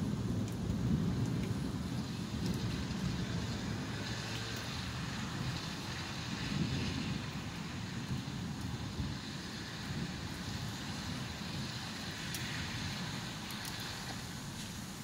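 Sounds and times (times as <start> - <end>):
low thunder rumble: 0.0 - 15.0
rain hissing: 0.0 - 15.0.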